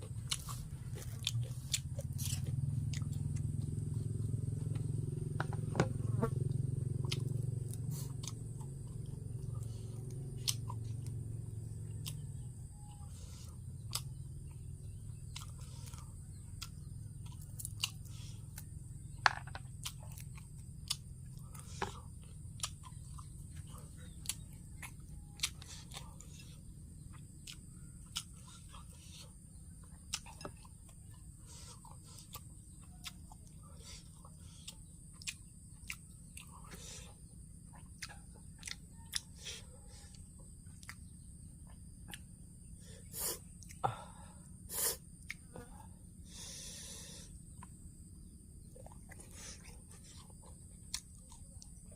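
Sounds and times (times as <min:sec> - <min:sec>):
close-up chewing and crunching: 0:00.0 - 0:43.8, 0:44.5 - 0:51.9.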